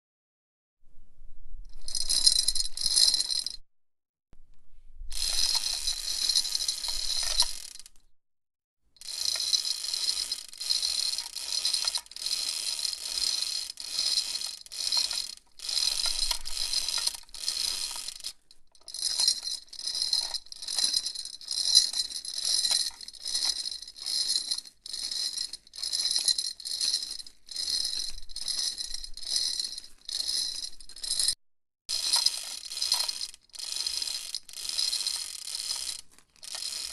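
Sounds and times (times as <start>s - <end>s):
metal chain rattling: 1.8s - 3.6s, 5.2s - 7.9s, 9.1s - 36.9s.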